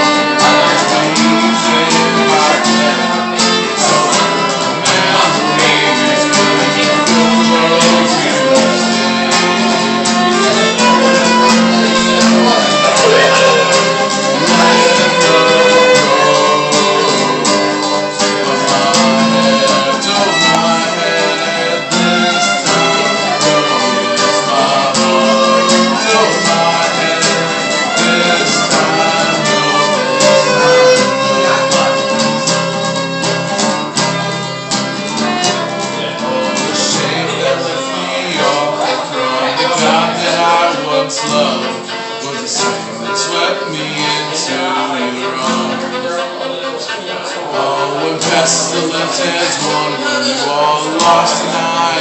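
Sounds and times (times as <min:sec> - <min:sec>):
instrumental folk music with fiddle: 0:00.0 - 0:52.0.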